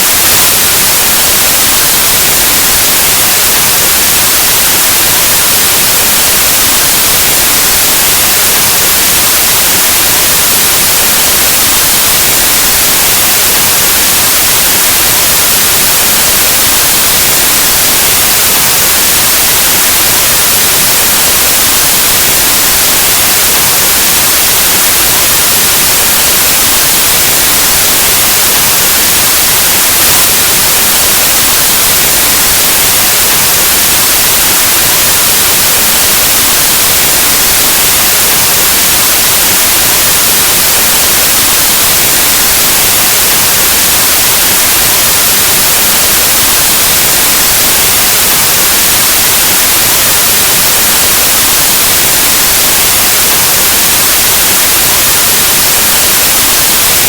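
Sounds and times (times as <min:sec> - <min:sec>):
white noise static hiss: 0:00.0 - 0:57.0.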